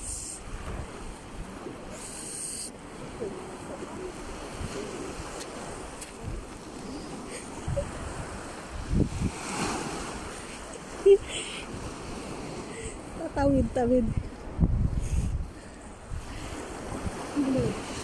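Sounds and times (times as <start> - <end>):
wind buffeting microphone: 0.0 - 2.0, 2.8 - 18.0
waves lapping on sandy shore: 0.0 - 18.0.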